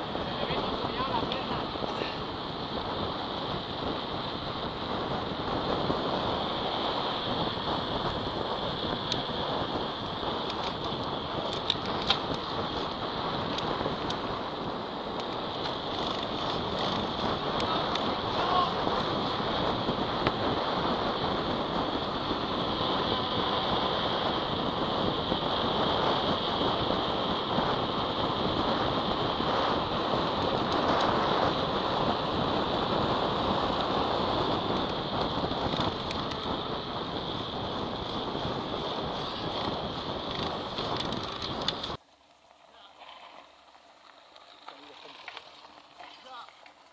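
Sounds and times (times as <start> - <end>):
wind rushing over microphone: 0.0 - 42.0
bike tyres rolling on asphalt: 0.0 - 46.9.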